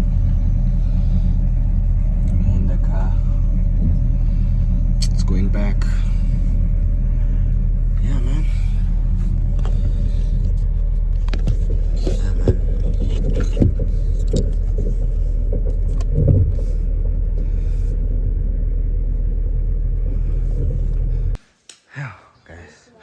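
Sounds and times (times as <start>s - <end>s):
engine idling: 0.0s - 21.4s.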